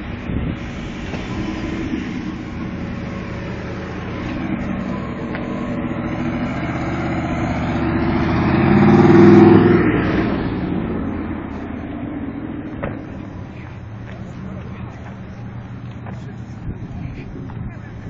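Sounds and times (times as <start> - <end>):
car engine passing by: 0.0 - 18.0.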